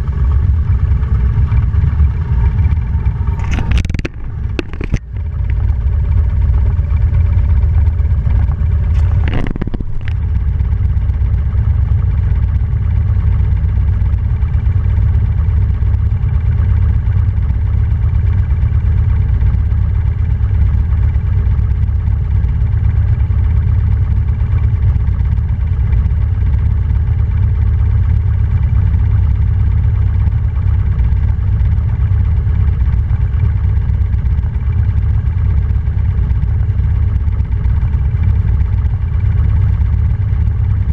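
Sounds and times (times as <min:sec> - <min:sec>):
heavy low rumble: 0:00.0 - 0:40.9
motorcycle engine running: 0:00.0 - 0:40.9.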